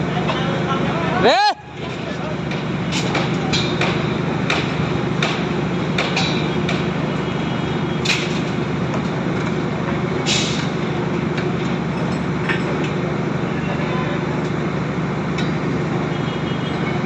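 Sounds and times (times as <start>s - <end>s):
construction machinery humming: 0.0s - 17.0s.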